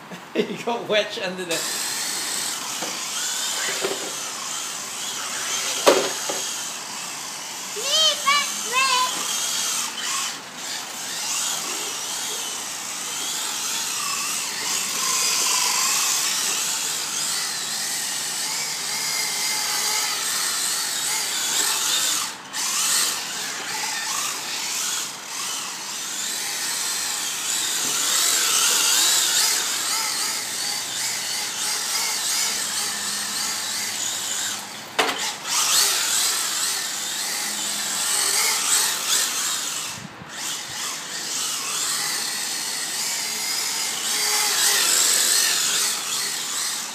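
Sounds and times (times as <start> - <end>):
rc car electric motors whining: 1.4 - 46.9.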